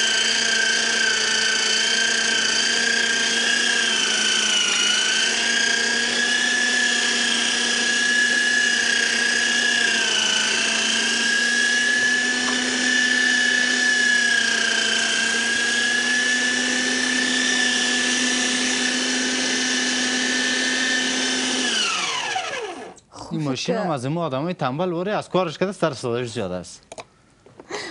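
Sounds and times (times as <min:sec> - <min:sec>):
meat grinder motor whining: 0:00.0 - 0:23.0.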